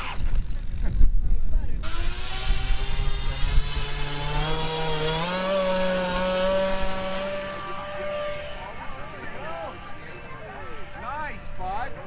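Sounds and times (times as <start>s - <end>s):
model plane electric motors buzzing: 1.8s - 12.0s.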